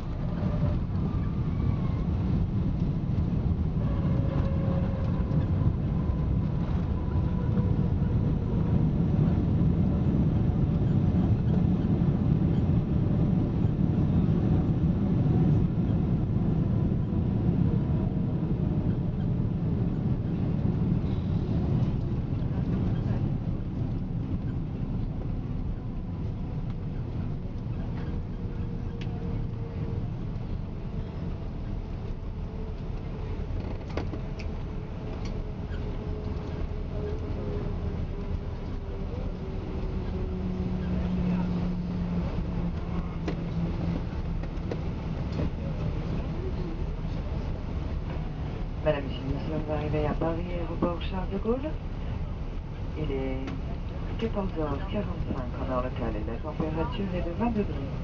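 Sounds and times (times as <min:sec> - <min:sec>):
low rumble of wheels and engines: 0:00.0 - 0:58.0.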